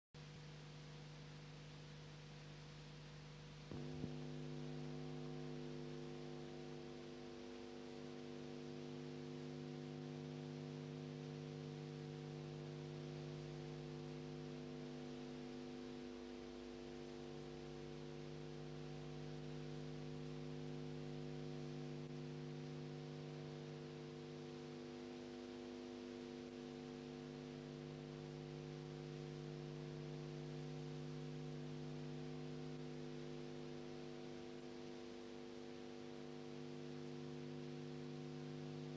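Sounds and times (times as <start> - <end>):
steady multi-tone hum: 0.2 - 38.9.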